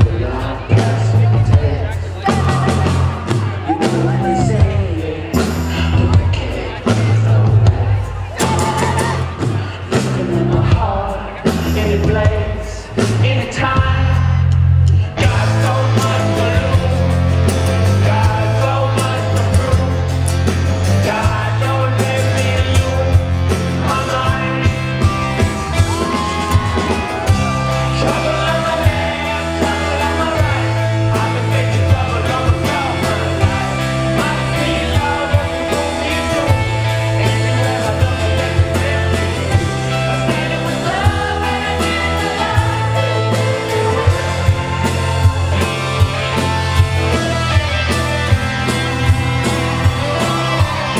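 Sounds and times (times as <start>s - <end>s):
bass guitar line: 0.0s - 50.9s
drums: 0.0s - 50.9s
live rock band: 0.0s - 50.9s
male lead vocal: 0.0s - 50.9s.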